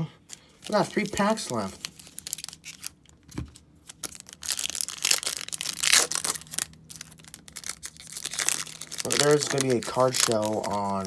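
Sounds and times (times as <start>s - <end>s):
foil wrapper crinkling and tearing: 0.3s - 11.0s.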